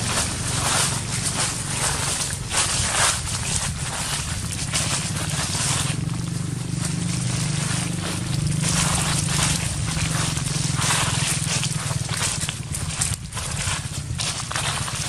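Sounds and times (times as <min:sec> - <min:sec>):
footsteps crunching dry leaves: 0:00.0 - 0:15.0
low rumble: 0:00.0 - 0:15.0.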